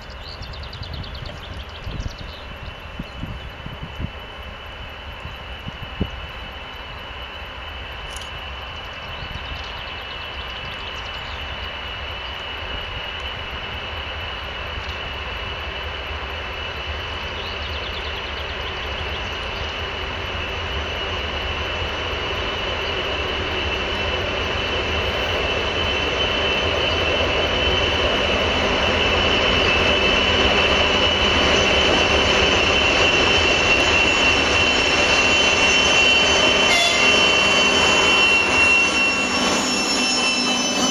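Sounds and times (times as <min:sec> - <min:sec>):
diesel locomotive rumble: 0:00.0 - 0:40.9
steady high whine: 0:00.0 - 0:40.9.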